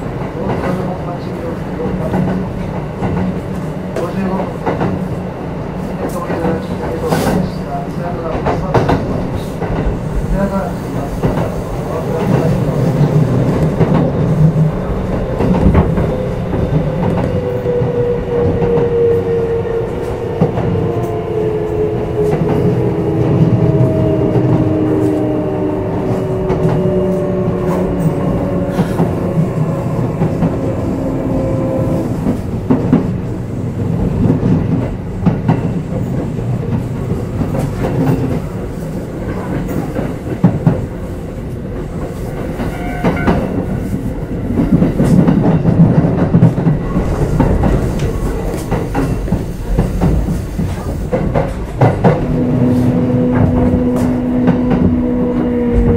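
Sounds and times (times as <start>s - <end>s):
rail joint clicks: 0.0s - 55.9s.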